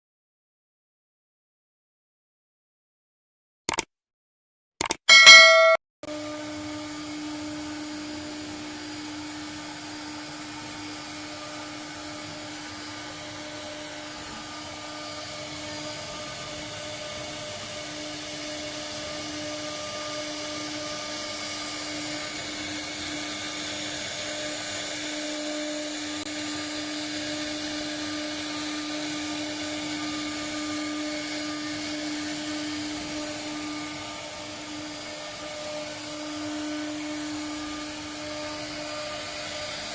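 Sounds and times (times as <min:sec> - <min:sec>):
router spindle high whine: 0:05.1 - 0:39.9.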